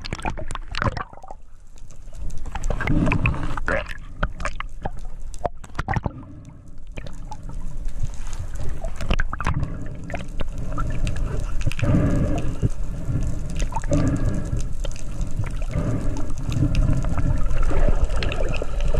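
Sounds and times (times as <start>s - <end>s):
water gurgling and rushing: 0.0s - 1.4s, 2.4s - 18.9s
sharp clicks and crackles: 0.0s - 18.9s.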